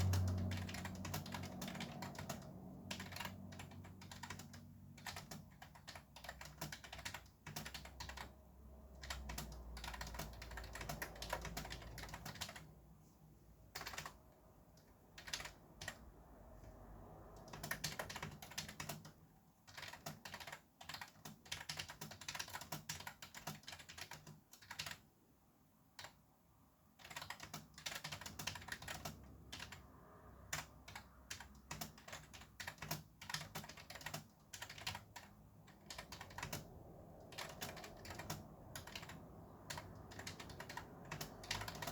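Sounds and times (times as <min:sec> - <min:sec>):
fast typing on keyboard: 0:00.0 - 0:12.8, 0:13.7 - 0:25.1, 0:25.9 - 0:26.2, 0:27.0 - 0:41.9.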